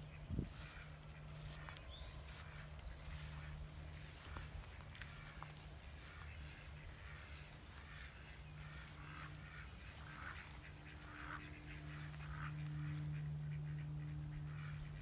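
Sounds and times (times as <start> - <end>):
geese honking: 0.0 - 15.0
low steady hum: 0.0 - 15.0.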